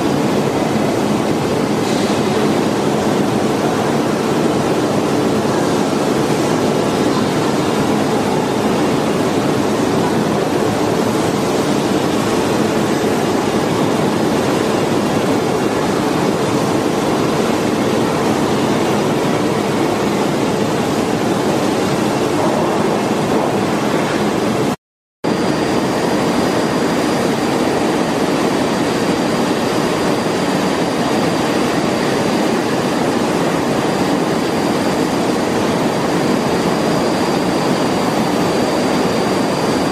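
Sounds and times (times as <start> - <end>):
factory machinery noise: 0.0 - 39.9.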